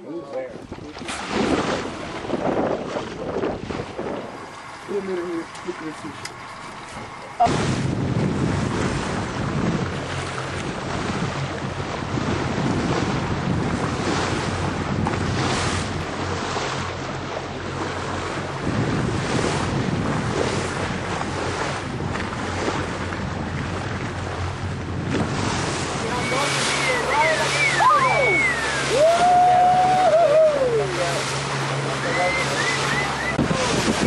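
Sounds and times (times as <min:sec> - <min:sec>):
low engine drone: 0:00.0 - 0:34.0
water rushing along boat hull: 0:00.0 - 0:34.0
wind buffeting microphone: 0:00.5 - 0:34.0.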